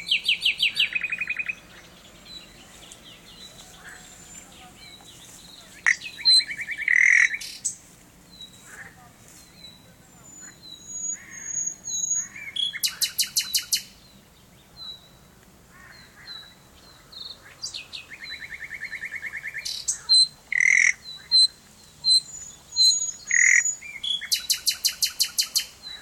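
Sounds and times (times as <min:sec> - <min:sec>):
nightingale singing: 0:00.0 - 0:08.8, 0:09.4 - 0:15.3, 0:16.0 - 0:26.0.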